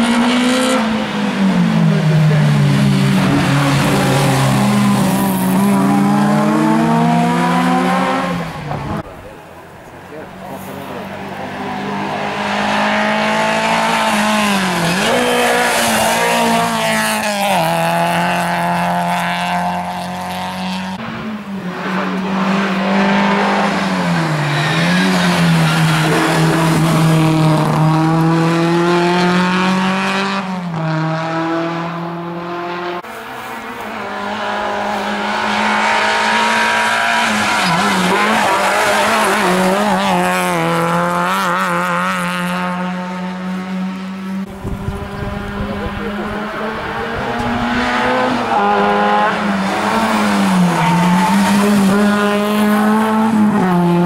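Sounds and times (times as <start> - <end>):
rally car engine revving: 0.0 - 9.4, 10.1 - 54.0
car engine pulling hard: 0.0 - 54.0.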